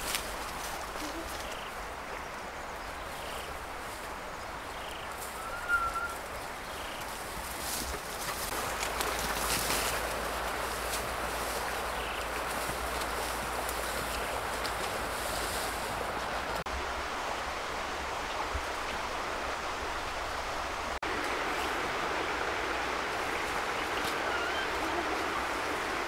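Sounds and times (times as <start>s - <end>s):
outdoor ambience hiss: 0.0s - 26.0s.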